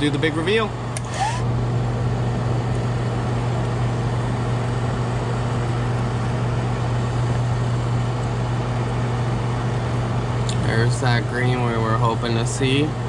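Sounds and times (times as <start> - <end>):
exhaust fan whirring: 0.0 - 13.0.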